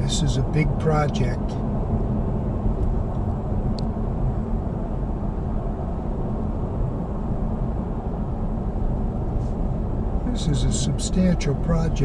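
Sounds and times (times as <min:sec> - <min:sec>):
car driving at highway speed: 0:00.0 - 0:12.0.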